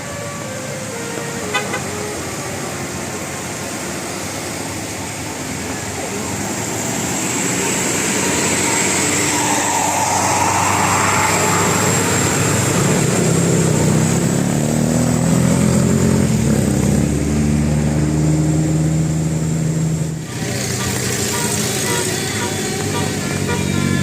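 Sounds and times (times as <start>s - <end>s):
heavy vehicle engine accelerating: 0.0s - 24.0s
road noise: 0.0s - 24.0s.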